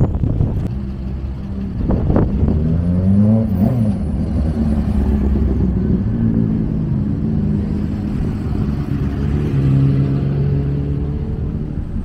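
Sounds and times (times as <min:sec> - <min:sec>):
car engines in traffic: 0:00.0 - 0:12.0
engine revving: 0:00.6 - 0:12.0.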